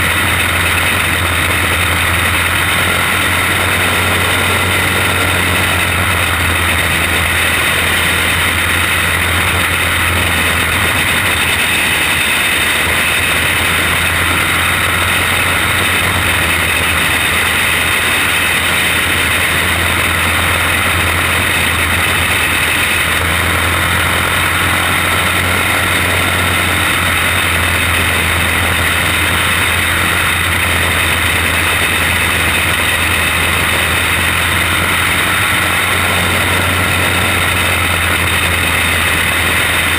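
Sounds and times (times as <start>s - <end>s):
kart engine droning: 0.0s - 39.9s
rush of noise: 0.0s - 39.9s
second kart engine: 0.0s - 39.9s.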